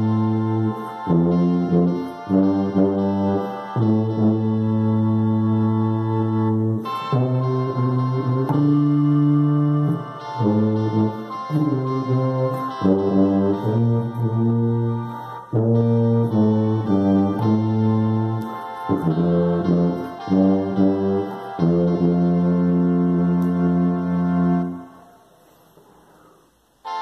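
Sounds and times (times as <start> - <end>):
tuba playing hymn melody: 0.0 - 25.2.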